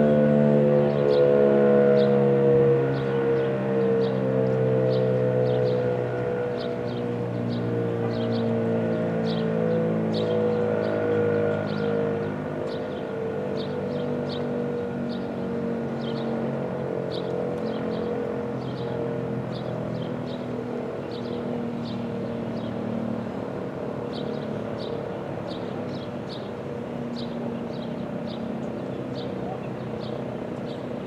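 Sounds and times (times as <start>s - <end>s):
warning siren steady tone: 0.0s - 31.0s.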